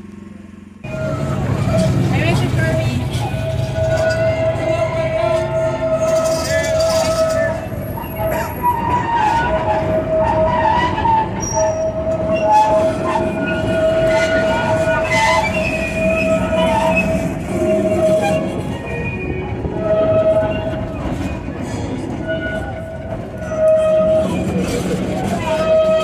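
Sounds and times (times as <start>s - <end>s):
train rumbling on track: 0.0s - 26.0s
high wheel squeal: 0.8s - 26.0s.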